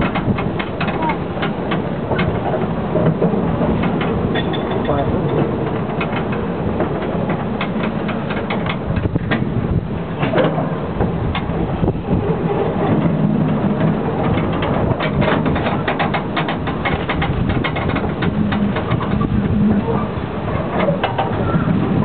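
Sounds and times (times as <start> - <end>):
train rumbling: 0.0 - 22.0
train wheels clattering: 0.0 - 22.0.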